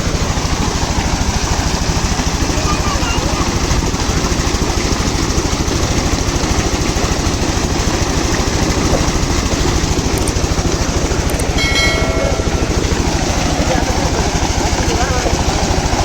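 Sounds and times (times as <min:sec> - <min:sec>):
oil engine running: 0:00.0 - 0:16.0.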